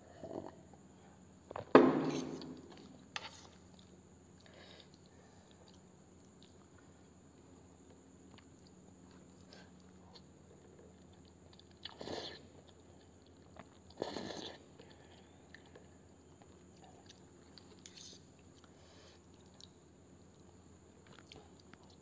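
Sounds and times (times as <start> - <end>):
quiet chewing: 2.7 - 7.1, 7.8 - 22.0.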